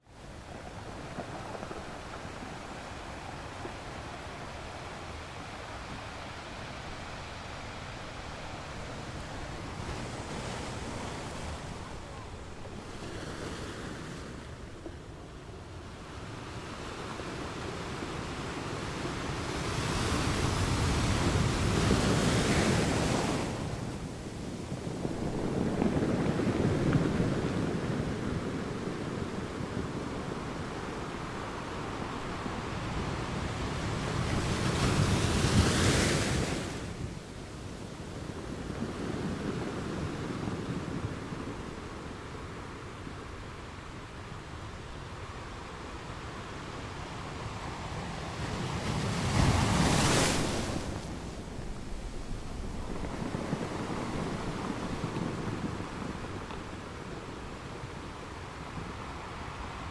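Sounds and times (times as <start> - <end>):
wind rumbling on microphone: 0.0 - 59.9
waves breaking: 0.2 - 15.2, 17.4 - 43.5, 47.4 - 59.9.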